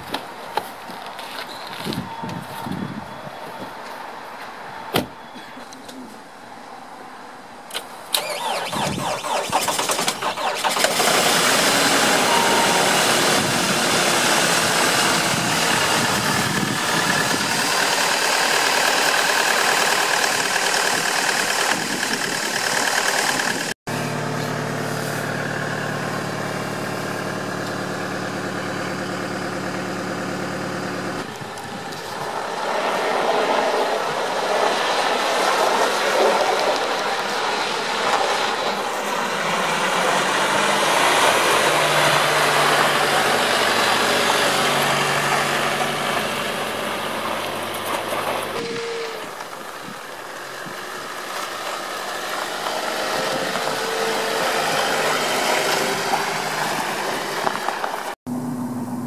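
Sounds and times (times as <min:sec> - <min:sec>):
diesel engine cranking and idling: 0:07.7 - 0:59.0.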